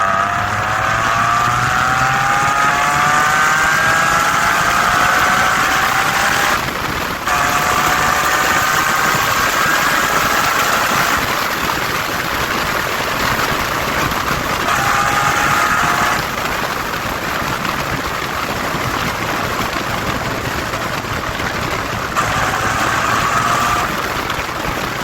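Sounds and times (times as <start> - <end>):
car engine accelerating hard: 0.0 - 25.0
road and wind noise: 0.0 - 25.0.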